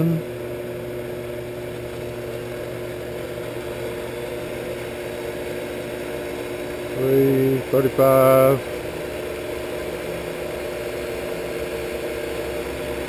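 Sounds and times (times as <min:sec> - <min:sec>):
belt-driven motor whirring: 0:00.0 - 0:13.0.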